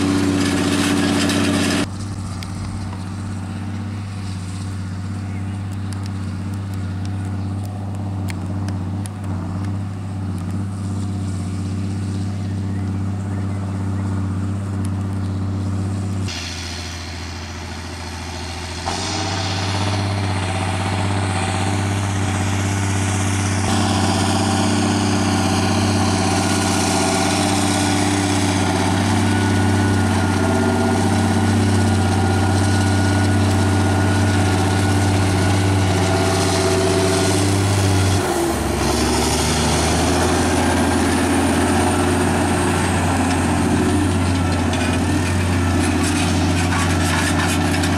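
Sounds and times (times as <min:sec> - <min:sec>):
tractor diesel engine droning: 0:00.0 - 0:47.9.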